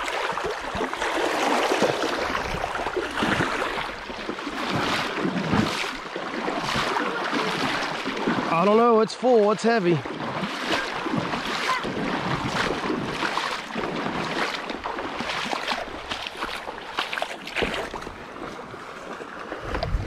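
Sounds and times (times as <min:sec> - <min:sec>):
creek water splashing: 0:00.0 - 0:20.0.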